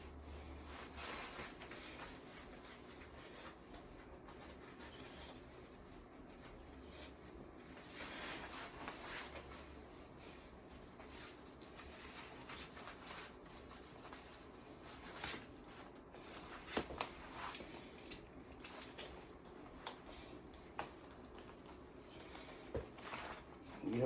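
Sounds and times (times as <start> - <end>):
clothing rustling: 0.1 - 24.0.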